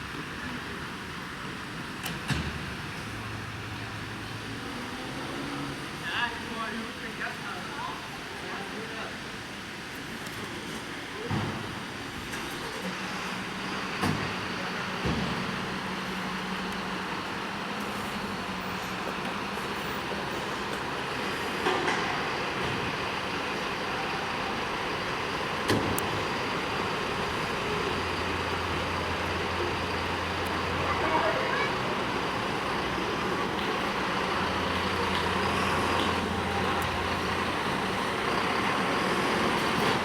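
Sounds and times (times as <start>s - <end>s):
street noise: 0.0s - 40.0s
vehicle engines running: 0.0s - 40.0s.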